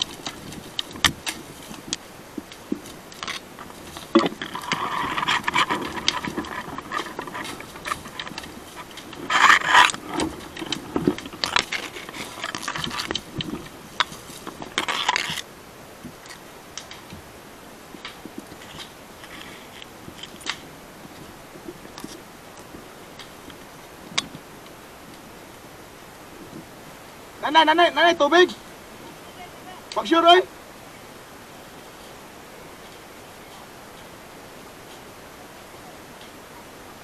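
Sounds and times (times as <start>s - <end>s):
branches and brush scraping: 0.0s - 37.0s.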